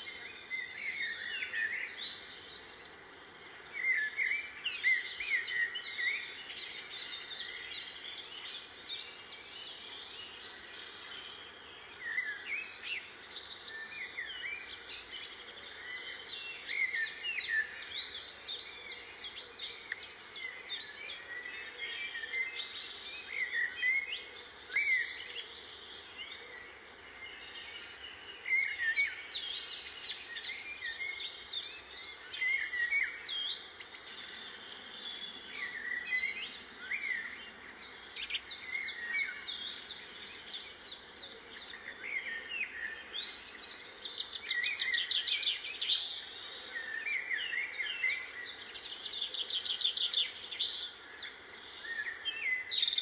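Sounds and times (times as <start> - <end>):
faint outdoor hiss: 0.0 - 53.0
small birds chirping: 0.0 - 53.0.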